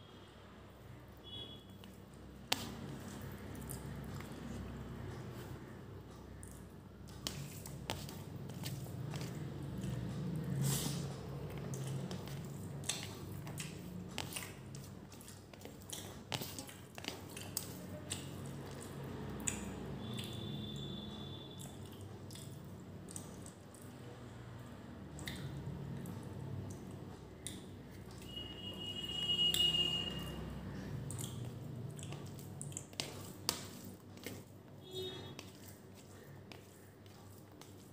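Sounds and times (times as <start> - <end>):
wet chewing and mouth clicks: 1.8 - 5.6, 6.2 - 24.2, 25.0 - 28.4, 29.1 - 34.6.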